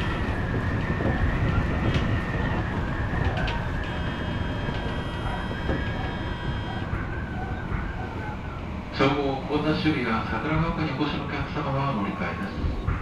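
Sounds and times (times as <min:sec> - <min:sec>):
electric train whine: 0:00.0 - 0:13.0
train wheels rumbling on track: 0:00.0 - 0:13.0.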